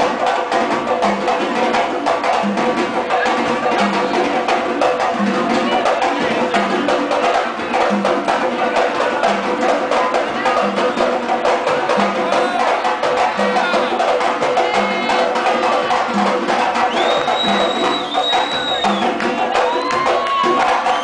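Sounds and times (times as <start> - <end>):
hand drums playing fast: 0.0 - 21.0.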